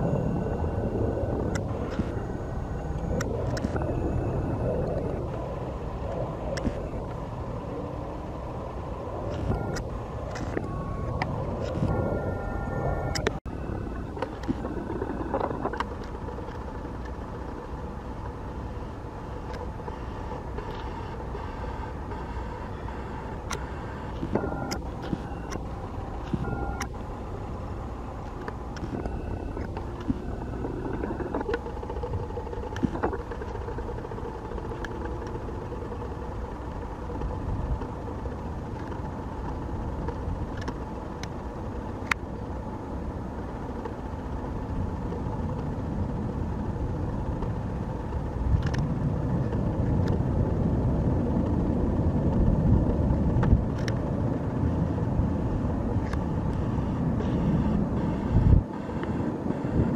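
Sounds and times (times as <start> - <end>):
distant jet engine rumble: 0.0 - 59.9.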